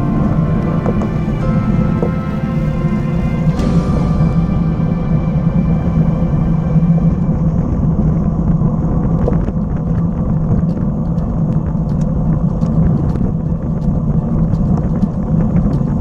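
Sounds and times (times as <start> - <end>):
wind and road rumble: 0.0 - 16.0.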